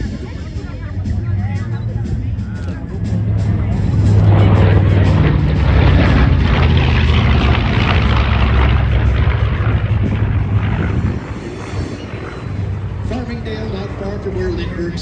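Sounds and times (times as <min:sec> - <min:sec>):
propeller plane drone: 0:00.0 - 0:15.0.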